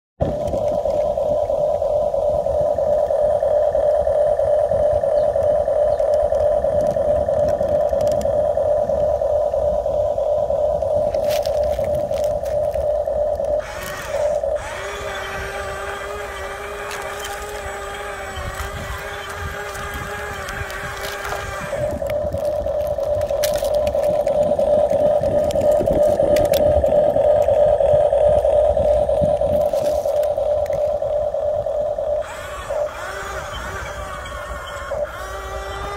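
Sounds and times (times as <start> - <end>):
rc excavator humming: 0.2 - 35.9.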